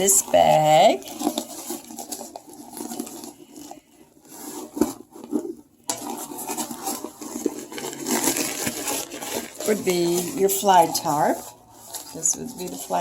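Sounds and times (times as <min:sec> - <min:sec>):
stuff sack rustling: 0:00.0 - 0:13.0.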